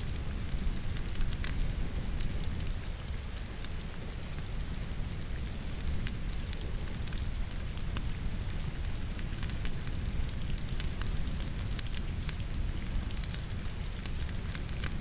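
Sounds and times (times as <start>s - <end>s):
logs crackling and popping: 0.0s - 15.0s
steady rainfall: 0.0s - 15.0s.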